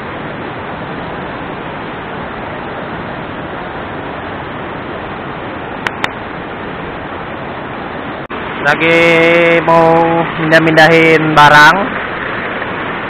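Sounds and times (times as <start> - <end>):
river rapids over rocks: 0.0 - 13.0.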